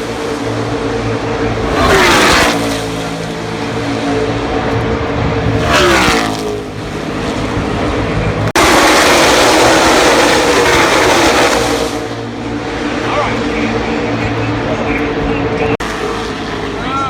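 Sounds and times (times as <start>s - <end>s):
race cars passing at full throttle: 0.0s - 17.0s.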